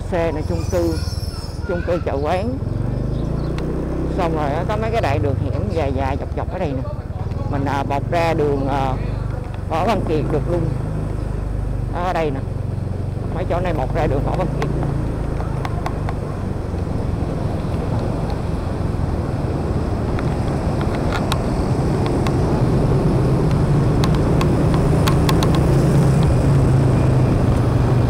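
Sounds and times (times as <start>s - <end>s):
dense motorbike traffic: 0.0s - 28.0s
scooter engine running: 0.2s - 28.0s.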